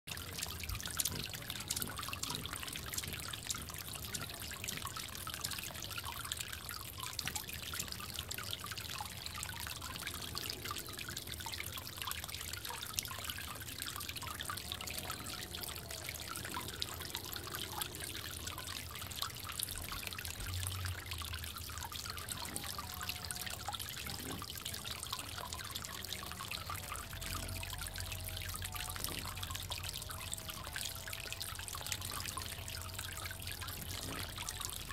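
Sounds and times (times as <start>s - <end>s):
small drips and splashes: 0.1s - 34.9s
water trickling in bird bath: 0.1s - 34.9s.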